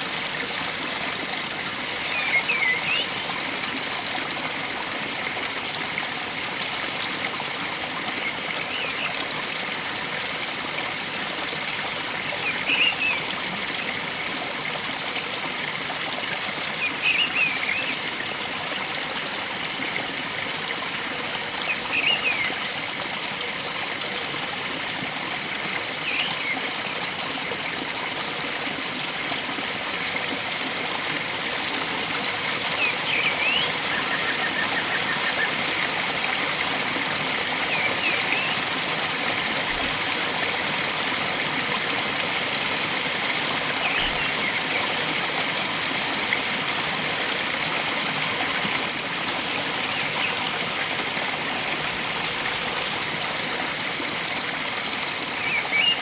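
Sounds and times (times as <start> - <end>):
flowing stream water: 0.0 - 56.0.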